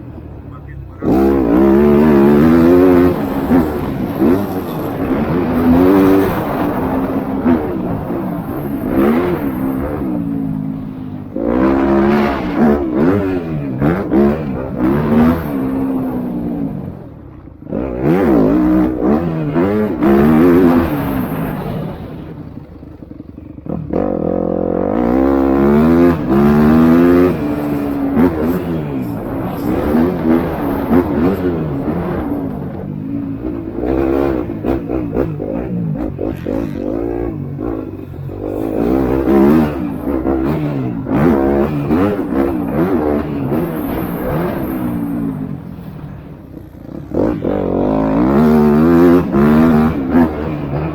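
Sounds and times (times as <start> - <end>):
motocross bikes revving: 0.0 - 50.9.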